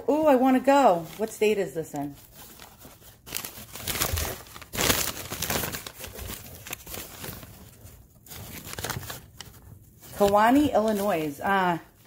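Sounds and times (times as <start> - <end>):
newspaper rustling and crinkling: 0.1 - 12.0.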